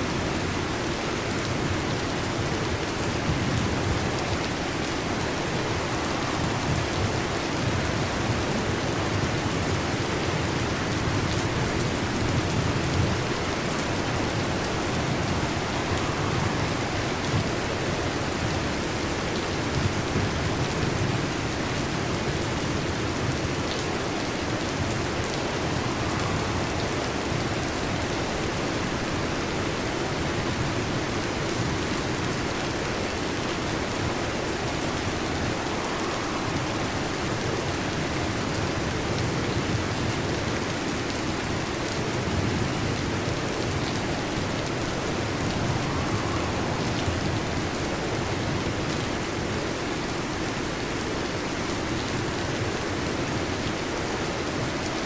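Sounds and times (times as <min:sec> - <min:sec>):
heavy rain on a metal roof: 0:00.0 - 0:55.0.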